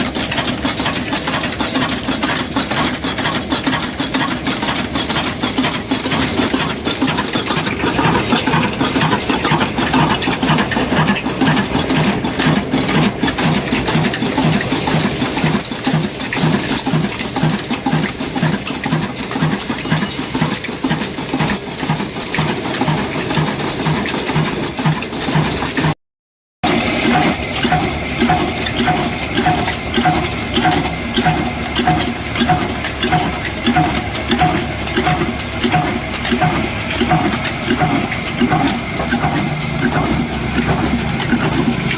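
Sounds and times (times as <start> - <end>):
slow stationary engine running: 0.0 - 26.0, 26.6 - 41.9.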